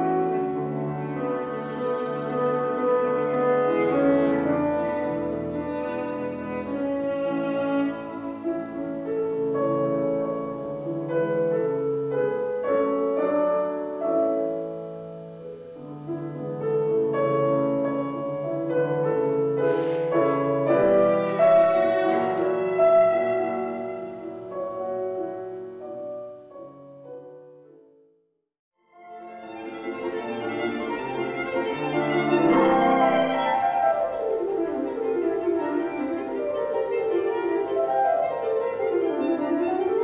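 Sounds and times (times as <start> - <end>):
violin melody: 0.0 - 26.5, 28.8 - 40.0
piano chords: 0.0 - 28.1, 28.8 - 40.0.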